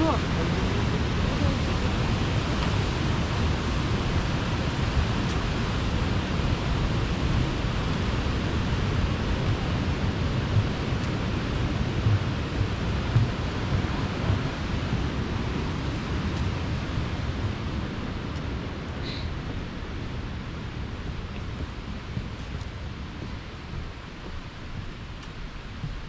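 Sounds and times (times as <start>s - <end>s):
fast-flowing creek rushing: 0.0s - 25.9s.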